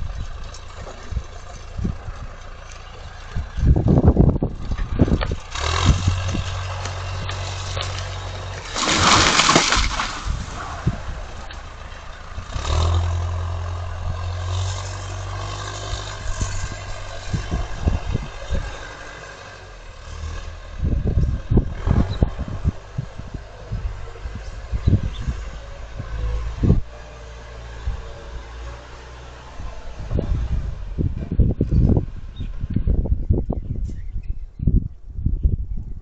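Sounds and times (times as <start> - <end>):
heavy equipment engine: 0.0 - 33.1.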